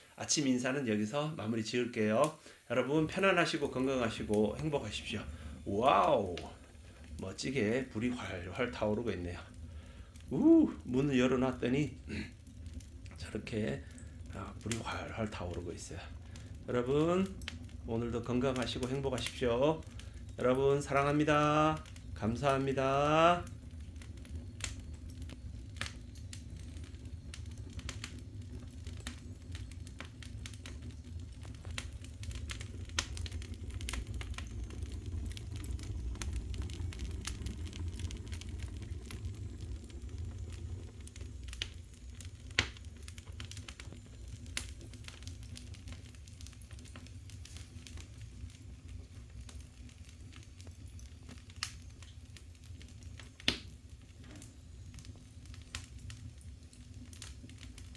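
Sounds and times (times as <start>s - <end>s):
fire crackling and popping: 0.0s - 57.9s
wood fire rumbling: 0.0s - 57.9s.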